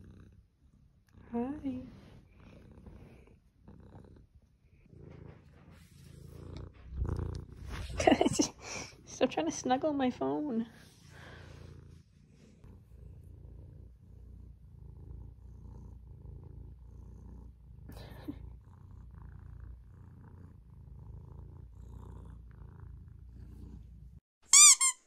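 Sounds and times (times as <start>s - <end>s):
cat purring: 0.0s - 24.2s.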